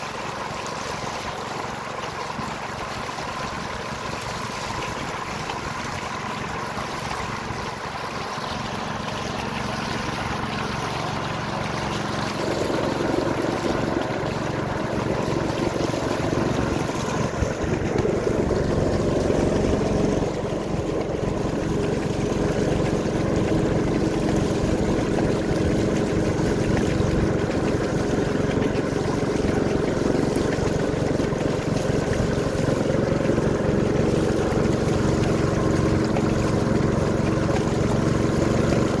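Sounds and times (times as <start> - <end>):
small boat motor running: 0.0 - 39.0
water noise: 0.0 - 39.0.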